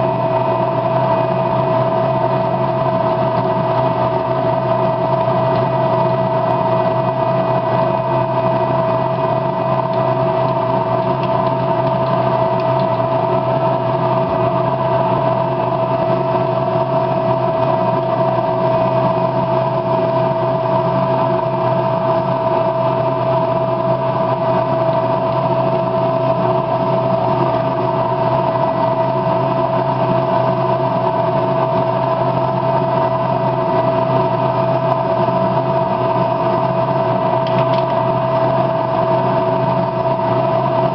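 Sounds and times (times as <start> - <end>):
machine humming: 0.0 - 40.9.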